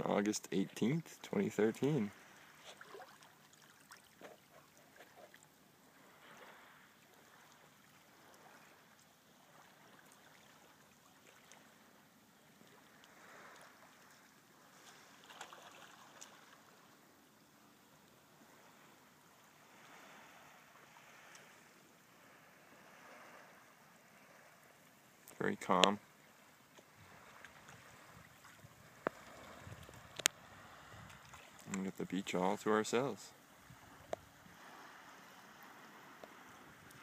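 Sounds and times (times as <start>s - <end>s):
seawater lapping against rocks: 0.6s - 37.0s.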